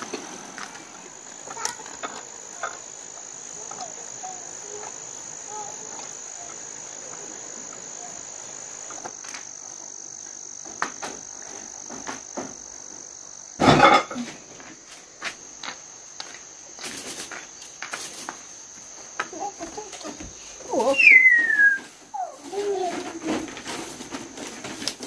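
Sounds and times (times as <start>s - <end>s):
insect trill: 0.0s - 25.0s.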